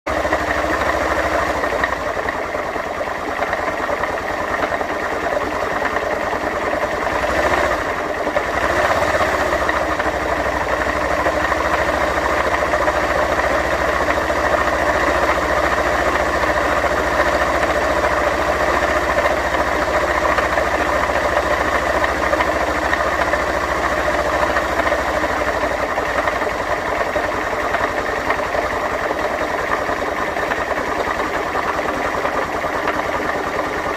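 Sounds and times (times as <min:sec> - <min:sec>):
motorcycle engine idling with clatter: 0:00.0 - 0:33.9.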